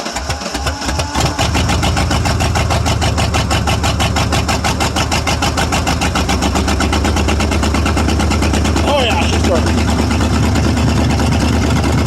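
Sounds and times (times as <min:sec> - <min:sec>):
v eight engine cranking and running: 0:00.0 - 0:12.0.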